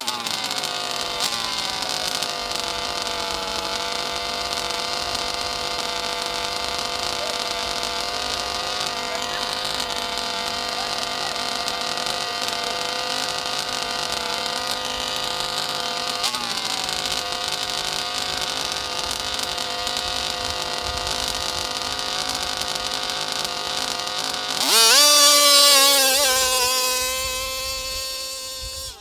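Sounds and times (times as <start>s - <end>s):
engine revving to full throttle: 0.0s - 29.0s
small two-stroke engine idling: 0.0s - 29.0s.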